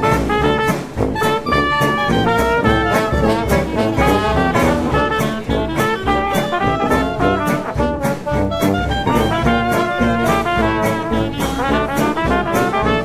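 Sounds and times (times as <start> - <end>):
steady drum beat: 0.0 - 13.0
upbeat brass swing music: 0.0 - 13.0.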